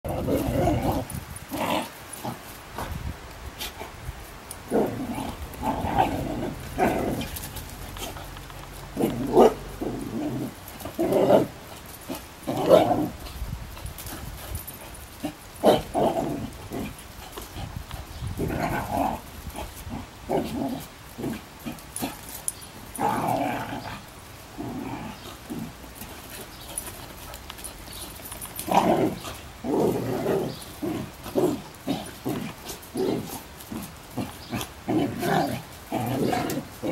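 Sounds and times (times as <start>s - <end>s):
dogs growling and barking: 0.1s - 3.0s, 3.6s - 36.9s.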